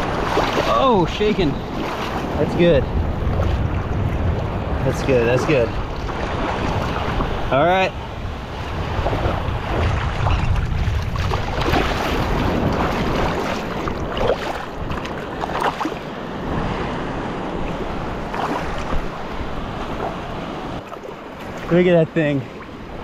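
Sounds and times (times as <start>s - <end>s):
water splashes: 0.0s - 7.6s, 8.4s - 16.9s, 17.6s - 23.0s
wind buffeting microphone: 0.0s - 21.9s
surf washing and sloshing: 0.0s - 23.0s.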